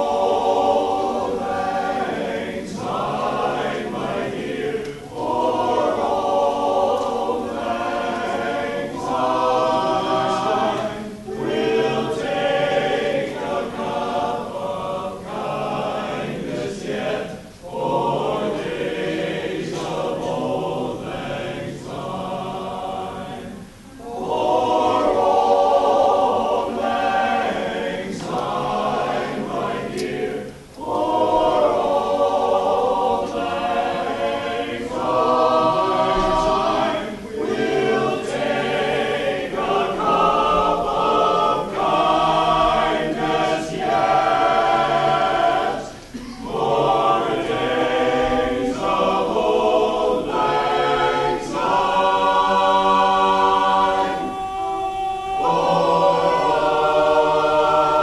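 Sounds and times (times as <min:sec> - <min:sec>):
men's chorus singing a cappella: 0:00.0 - 0:58.0.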